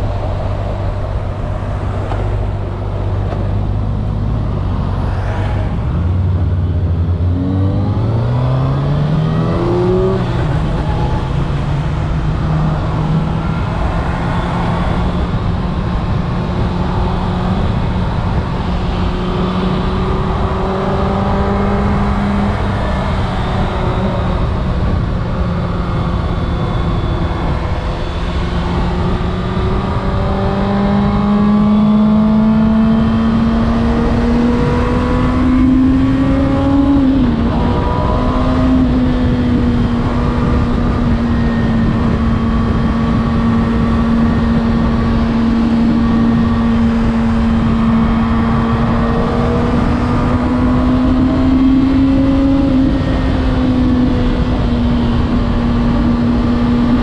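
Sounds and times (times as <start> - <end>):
wind noise: 0.0 - 57.0.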